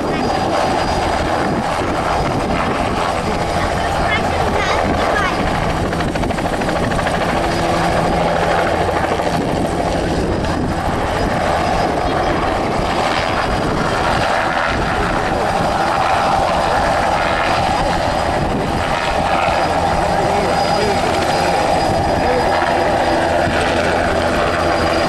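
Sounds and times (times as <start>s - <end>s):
helicopter turbine and rotor: 0.0s - 25.0s.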